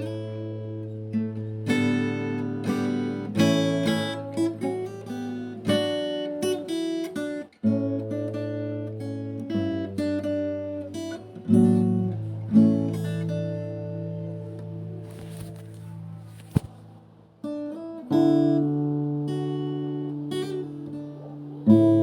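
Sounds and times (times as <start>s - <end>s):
acoustic guitar plucked notes: 0.0s - 22.0s.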